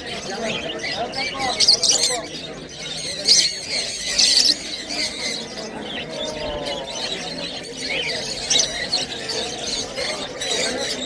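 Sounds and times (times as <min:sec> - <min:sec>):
murmur of background chatter: 0:00.0 - 0:11.0
parrots screeching: 0:00.0 - 0:11.0.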